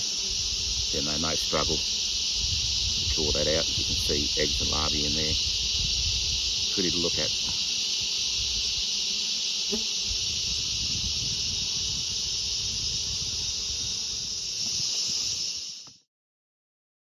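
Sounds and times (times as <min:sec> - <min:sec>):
insects calling: 0:00.0 - 0:16.0.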